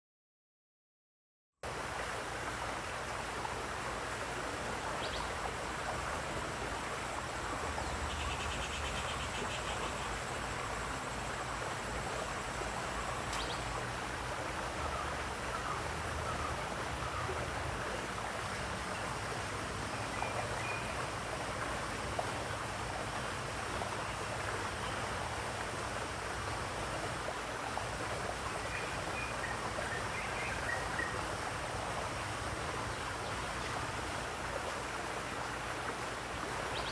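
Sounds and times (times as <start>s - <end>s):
water rushing and splashing: 1.6s - 36.9s.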